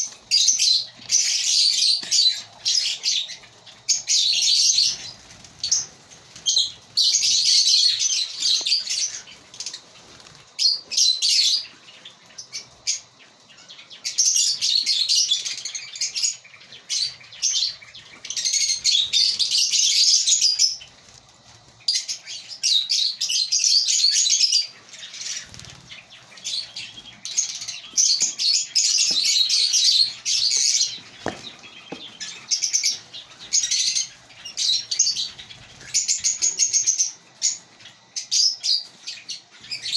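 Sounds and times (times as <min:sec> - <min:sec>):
birds chattering high chirps: 0:00.0 - 0:39.9.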